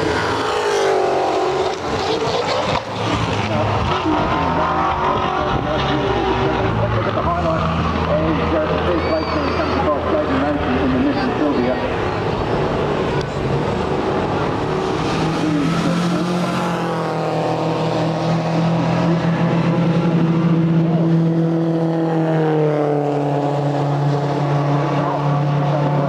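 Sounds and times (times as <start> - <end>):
race car engines: 0.0 - 26.0.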